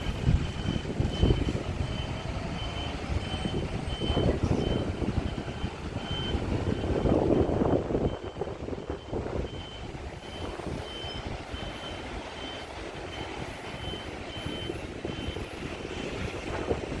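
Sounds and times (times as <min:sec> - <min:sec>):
train station rumble: 0:00.0 - 0:17.0
short high warning beeps: 0:00.3 - 0:17.0.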